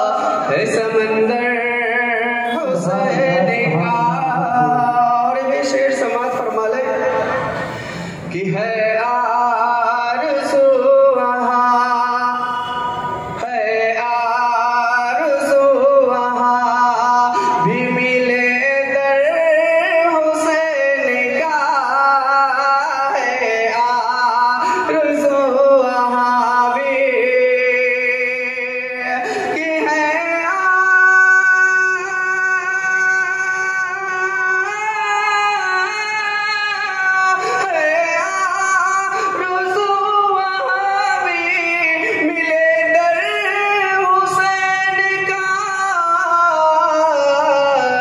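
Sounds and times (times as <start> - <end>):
man singing through loudspeakers: 0.0 - 48.0.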